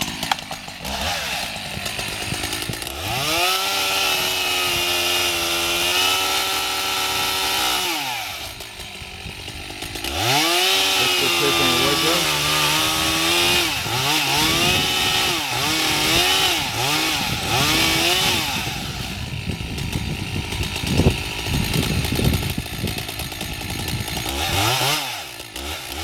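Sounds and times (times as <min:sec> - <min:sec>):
chainsaw revving while cutting: 0:00.0 - 0:26.0.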